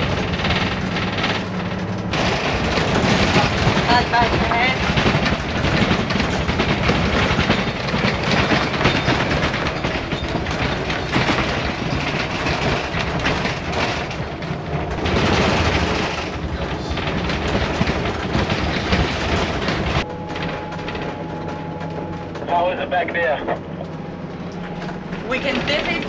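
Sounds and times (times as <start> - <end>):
truck body rattling and drumming: 0.0 - 26.0
truck engine running: 0.0 - 26.0.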